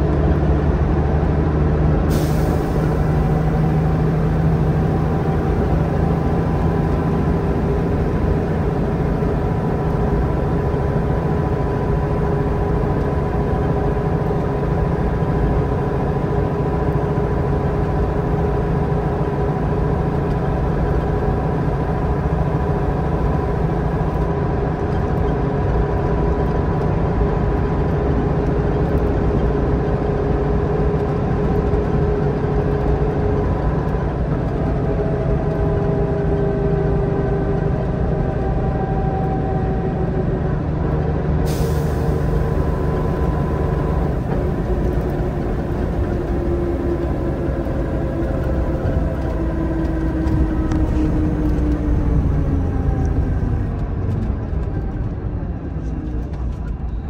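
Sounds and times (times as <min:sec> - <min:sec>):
bus engine rumbling with whine: 0:00.0 - 0:57.0.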